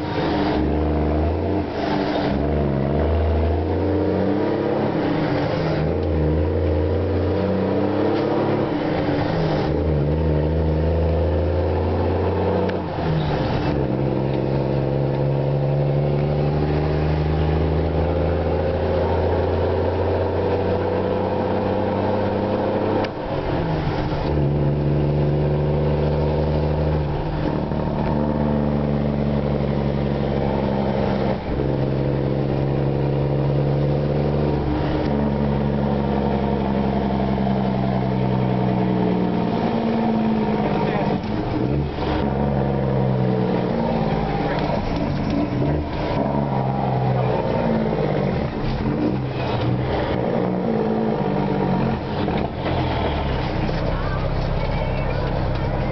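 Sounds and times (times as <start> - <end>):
diesel truck engine accelerating: 0.0 - 55.9.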